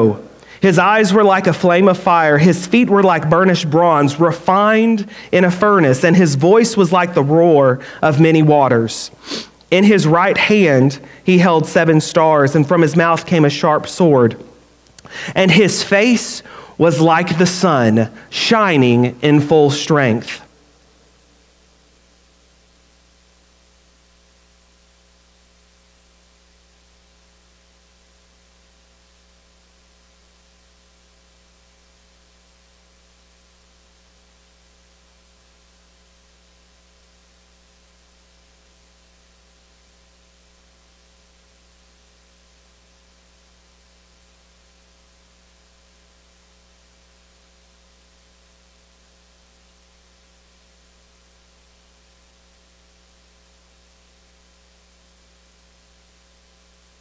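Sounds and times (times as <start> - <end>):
faint hiss: 0.0 - 5.8, 7.2 - 57.0
electrical mains hum: 0.0 - 57.0.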